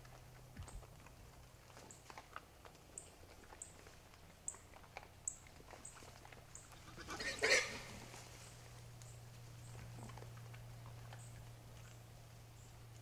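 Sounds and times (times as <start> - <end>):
animal moving with clicks and crunches: 0.0 - 13.0
low steady hum: 0.0 - 13.0.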